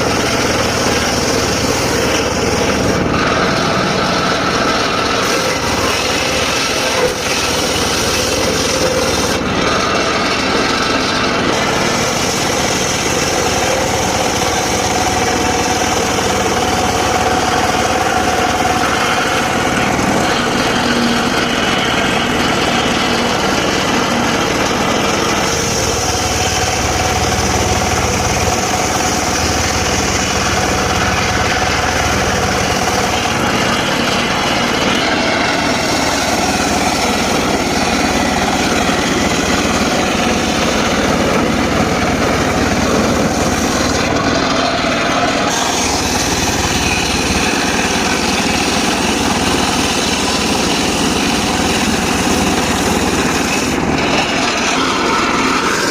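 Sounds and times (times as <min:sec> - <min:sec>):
circular saw cutting wood: 0:00.0 - 0:55.9.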